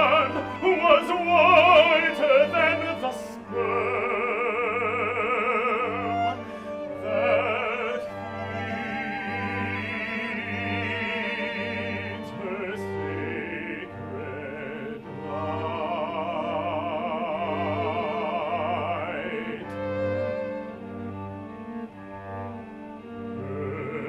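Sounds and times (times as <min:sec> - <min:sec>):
bowed strings: 0:00.0 - 0:24.0
operatic singing: 0:00.0 - 0:24.0.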